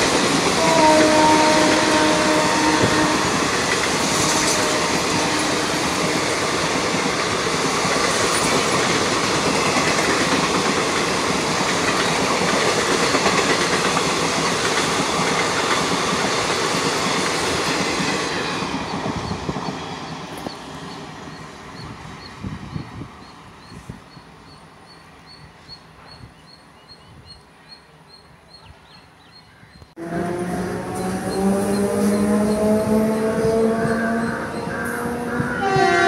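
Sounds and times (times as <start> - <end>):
train wheels clattering on rails: 0.0 - 25.0, 30.2 - 36.0.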